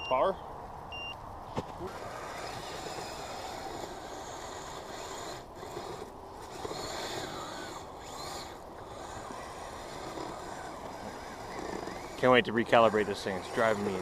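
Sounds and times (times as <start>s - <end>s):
tracks rasping on snow: 1.5s - 14.0s
electric motors whining: 1.6s - 14.0s.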